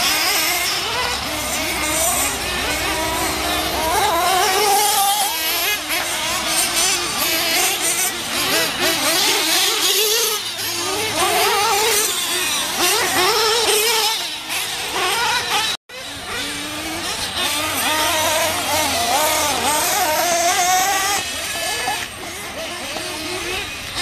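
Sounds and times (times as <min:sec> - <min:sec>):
rc car engines revving: 0:00.0 - 0:24.0.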